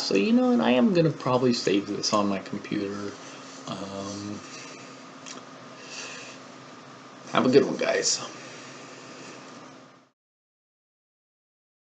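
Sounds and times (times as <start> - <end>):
low hiss: 0.0 - 10.1
faint hum: 0.0 - 10.2.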